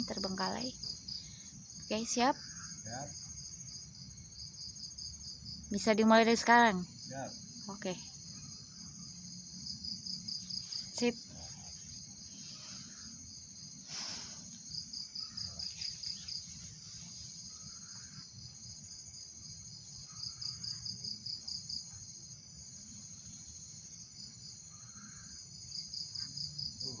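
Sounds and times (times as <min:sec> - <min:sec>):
crickets chirping: 0:00.0 - 0:27.0
loud pulsed cricket trills: 0:00.0 - 0:27.0.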